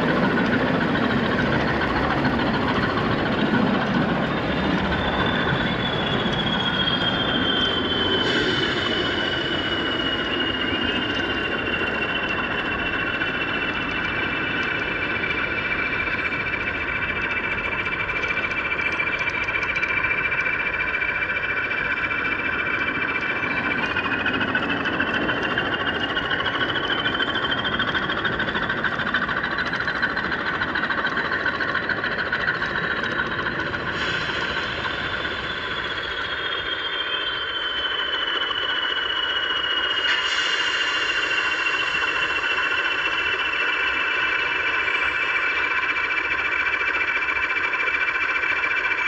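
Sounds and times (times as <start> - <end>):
wheels rumbling on rails: 0.0 - 49.0.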